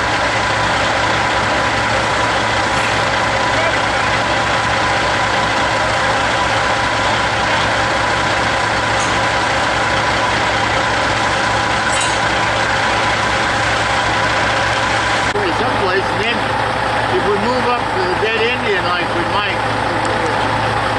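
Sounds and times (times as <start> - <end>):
diesel truck engine running: 0.0 - 20.9.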